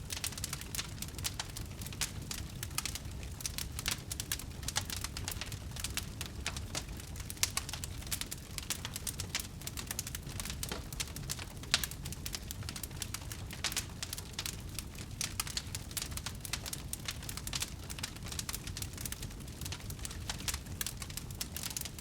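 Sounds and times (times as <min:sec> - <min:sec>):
wood fire crackling: 0:00.0 - 0:22.0
sharp pops from fire: 0:00.1 - 0:22.0.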